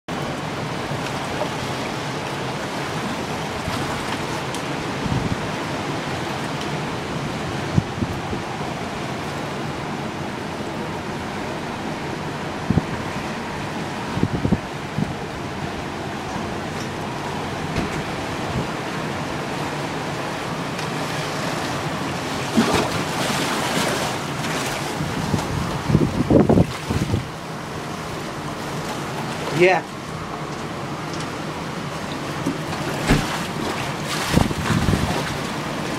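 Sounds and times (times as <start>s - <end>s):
floodwater rushing: 0.1s - 35.9s
storm wind: 0.1s - 35.9s.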